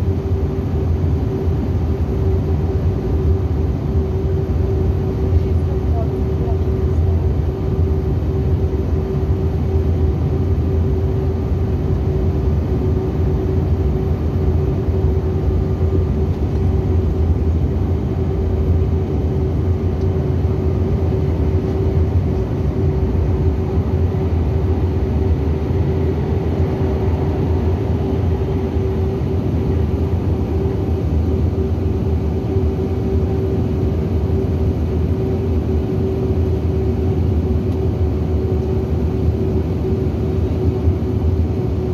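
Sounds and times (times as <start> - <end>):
aircraft cabin low rumble: 0.0 - 41.9
mid-pitched engine whine: 0.0 - 41.9.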